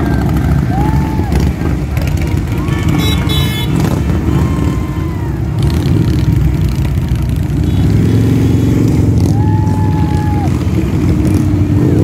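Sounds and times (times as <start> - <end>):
motorcycles rumbling past: 0.0 - 12.0.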